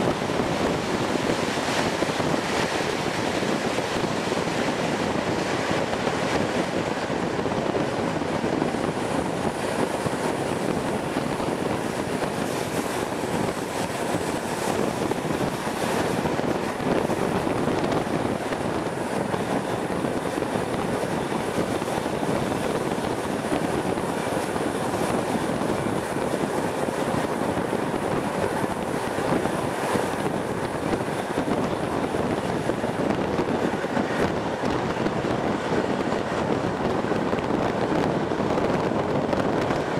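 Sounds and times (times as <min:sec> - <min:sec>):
rush of wind: 0:00.0 - 0:39.9
train wheels rolling on rails: 0:00.0 - 0:39.9.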